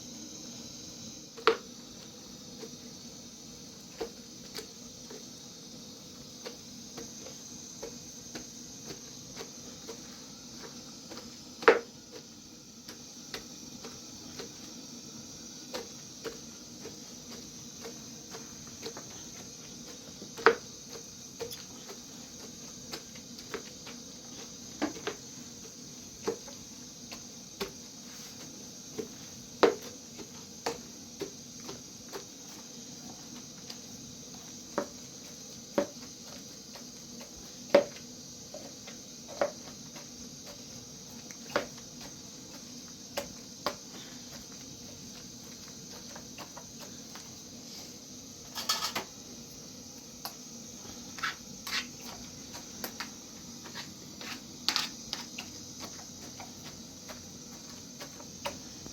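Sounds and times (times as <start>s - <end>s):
steady hiss: 0.0s - 58.9s.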